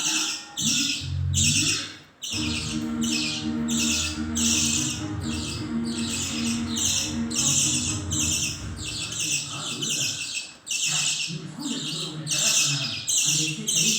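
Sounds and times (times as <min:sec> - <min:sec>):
budgerigars chattering: 0:00.0 - 0:13.9
harsh squawking calls: 0:00.0 - 0:13.9.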